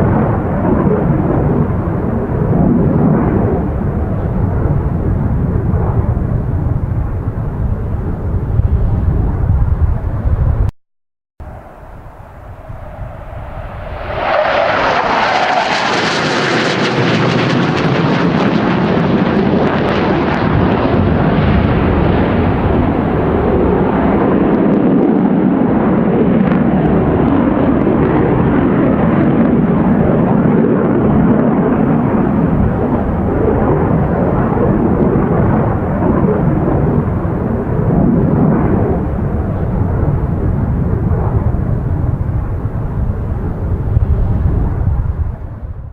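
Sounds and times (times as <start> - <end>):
fighter jet roar: 0.0 - 10.5, 11.4 - 45.9.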